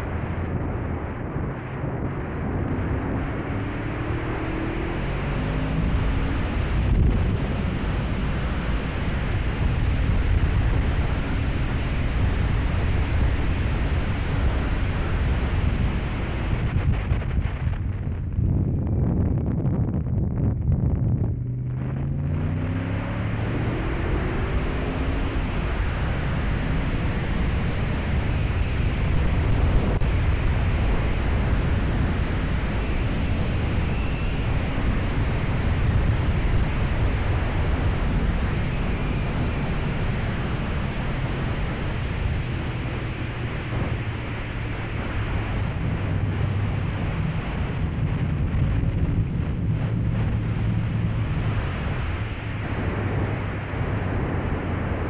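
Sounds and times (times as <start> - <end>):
wind rush on microphone: 0.0 - 55.0.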